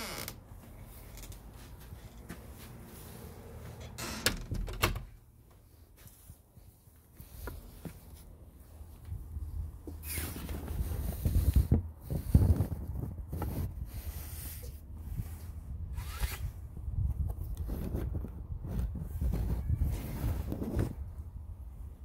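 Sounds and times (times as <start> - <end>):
jacket rustling against microphone: 0.1 - 4.0, 5.5 - 21.2.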